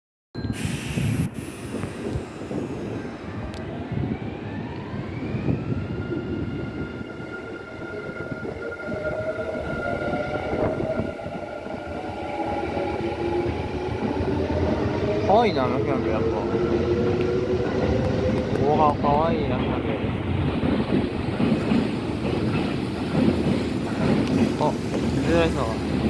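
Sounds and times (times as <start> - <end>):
wheels rumbling on rails: 1.0 - 26.0.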